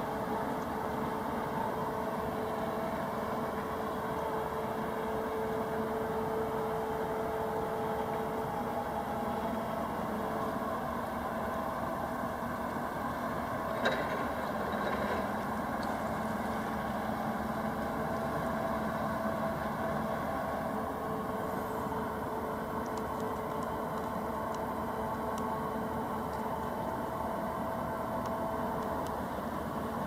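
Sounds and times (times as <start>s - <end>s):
ship engine hum: 0.0s - 30.0s.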